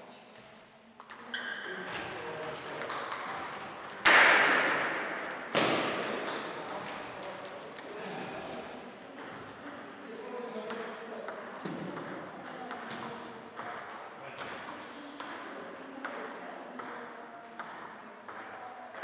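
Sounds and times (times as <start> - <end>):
table tennis ball bouncing: 0.4 - 7.9, 9.0 - 9.7, 10.6 - 19.0.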